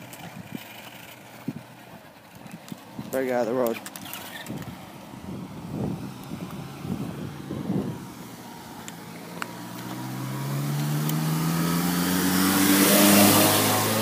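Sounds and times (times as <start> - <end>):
car engine approaching: 0.0 - 14.0.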